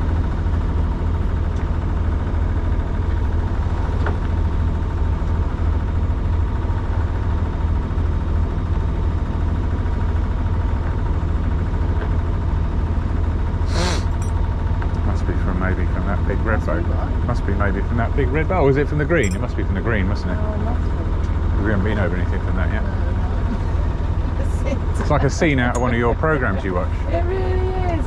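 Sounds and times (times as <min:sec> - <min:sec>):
boat engine droning: 0:00.0 - 0:28.0
faint steady whine: 0:00.0 - 0:28.0.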